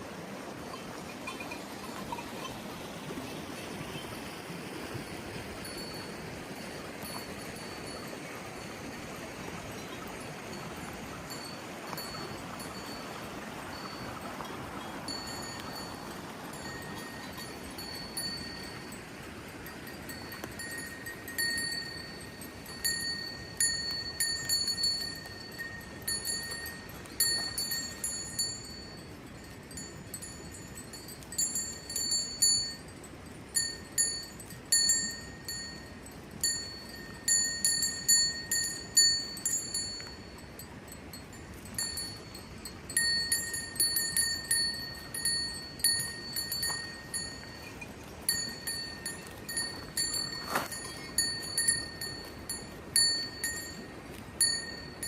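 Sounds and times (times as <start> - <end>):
livestock bells clanking: 1.1 - 2.5, 5.1 - 9.2, 9.8 - 55.0.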